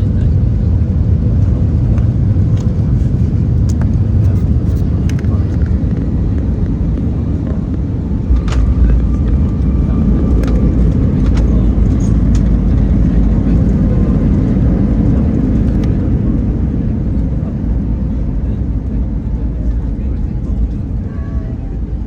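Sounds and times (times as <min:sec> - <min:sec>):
aircraft low rumble: 0:00.0 - 0:22.0.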